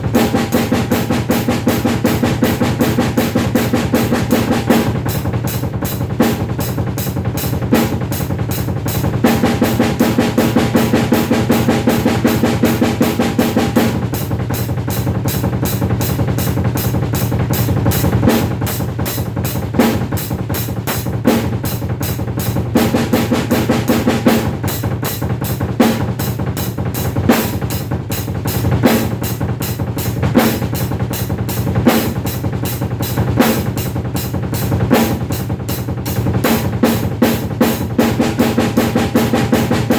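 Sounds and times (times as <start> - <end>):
drum kit playing fast: 0.0 - 39.9.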